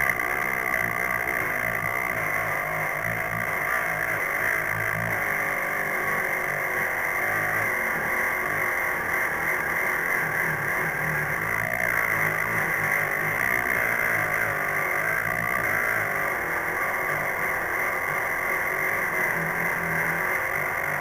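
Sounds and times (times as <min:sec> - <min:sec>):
rotary tool whining: 0:00.0 - 0:21.0.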